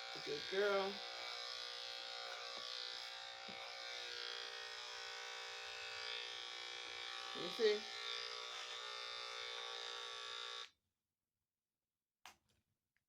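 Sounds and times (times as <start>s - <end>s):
electric clippers buzzing: 0.0s - 10.8s.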